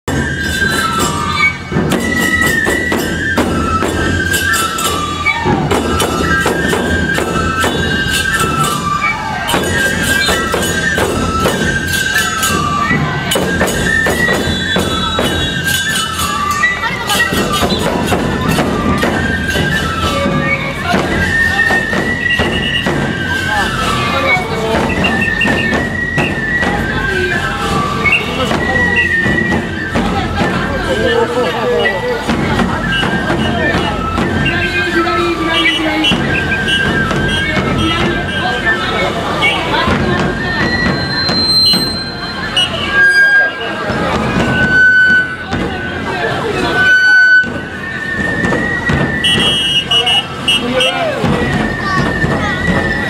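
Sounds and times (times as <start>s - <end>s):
bamboo flute melody: 0.0s - 53.0s
taiko drum beats: 0.1s - 53.0s.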